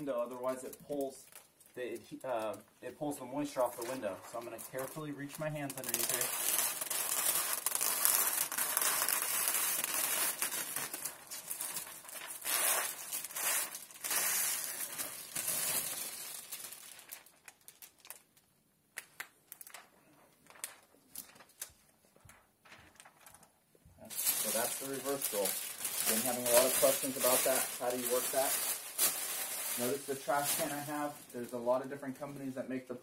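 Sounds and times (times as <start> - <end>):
plastic film crinkling: 0.0 - 32.5.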